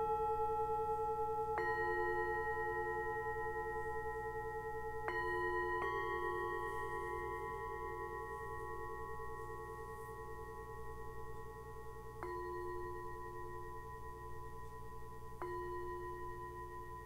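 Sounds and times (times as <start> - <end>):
singing bowls ringing: 0.0 - 17.0.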